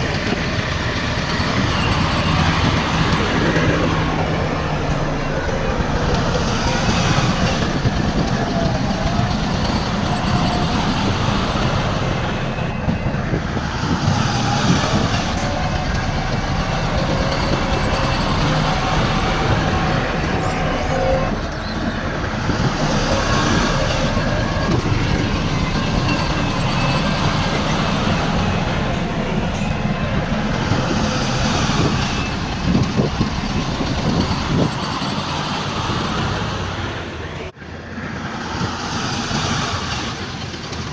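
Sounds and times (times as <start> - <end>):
bulldozer engine running: 0.0 - 37.6
steel tracks clattering: 0.0 - 40.9.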